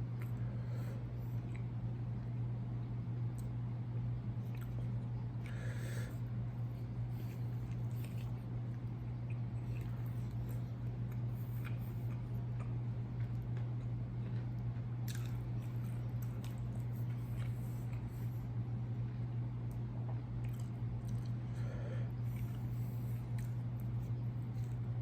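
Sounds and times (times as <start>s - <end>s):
chewing and wet mouth sounds: 0.0s - 2.5s, 3.2s - 25.0s.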